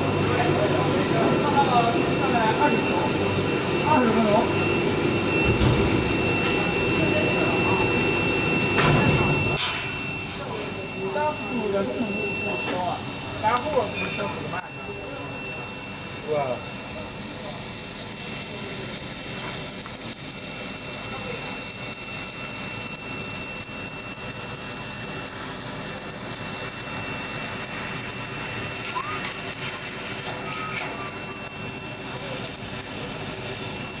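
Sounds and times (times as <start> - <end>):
welding machine hiss and whine: 0.0 - 34.0.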